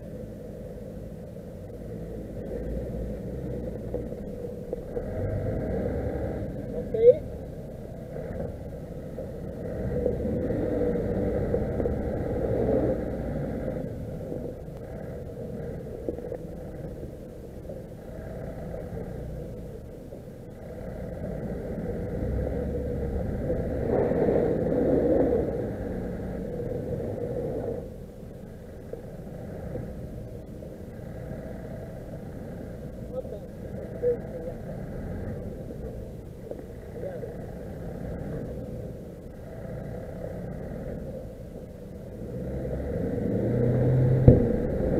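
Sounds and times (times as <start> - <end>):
vehicle engines rumbling: 0.0 - 44.9.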